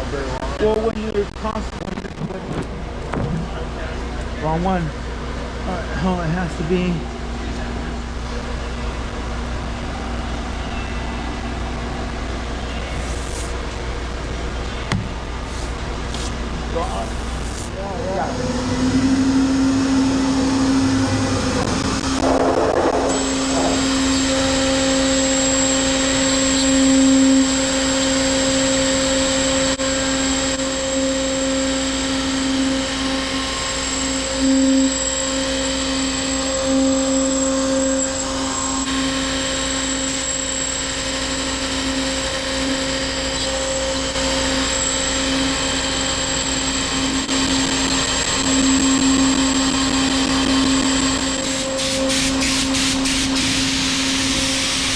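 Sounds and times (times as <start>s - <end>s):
high whine of router bit: 3.6s - 54.9s
router humming: 7.1s - 54.9s.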